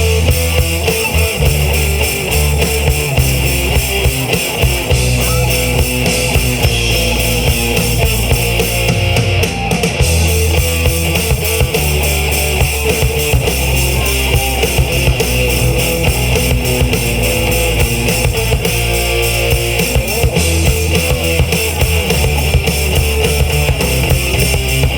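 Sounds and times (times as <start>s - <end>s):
bass guitar: 0.0s - 24.9s
distorted electric guitars: 0.0s - 24.9s
drum kit: 0.0s - 24.9s.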